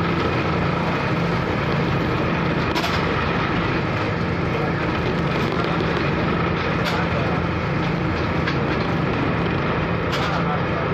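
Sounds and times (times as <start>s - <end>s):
ship engine drone: 0.0s - 10.9s.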